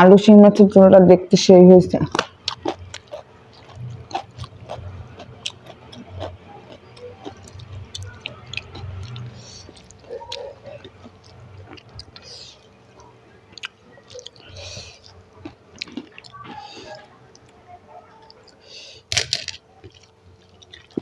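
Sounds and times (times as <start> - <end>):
person chewing food: 2.1 - 21.0.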